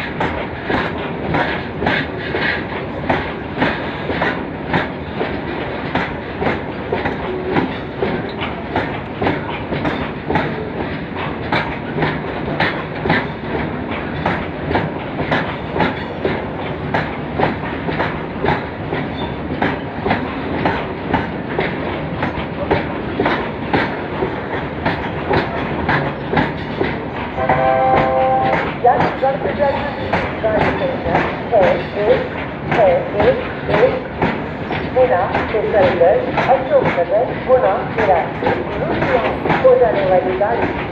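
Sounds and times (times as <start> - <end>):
continuous train rumble: 0.0 - 40.9
train wheels clacking on rail joints: 0.0 - 40.9.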